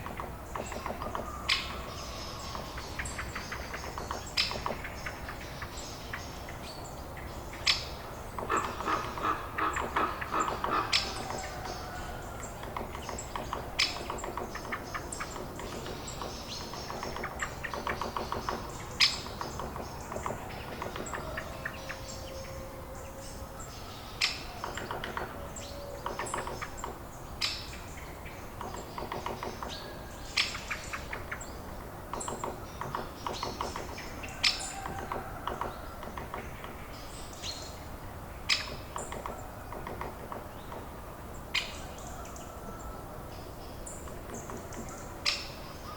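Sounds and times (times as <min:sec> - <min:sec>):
birds chattering: 0:00.0 - 0:45.9.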